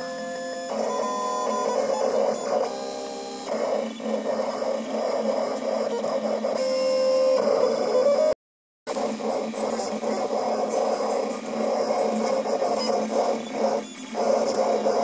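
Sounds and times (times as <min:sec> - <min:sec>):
steady mechanical whirr: 0:00.0 - 0:15.0
vinyl cutter motors whining: 0:00.0 - 0:15.0.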